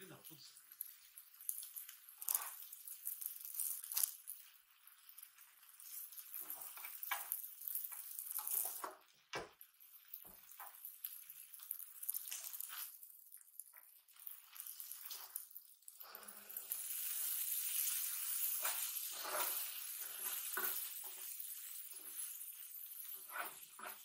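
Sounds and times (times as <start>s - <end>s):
noodles sizzling on hot plate: 0.0s - 24.0s
spatulas scraping and tapping griddle: 0.8s - 4.5s, 5.1s - 13.0s, 13.7s - 15.5s, 16.1s - 24.0s.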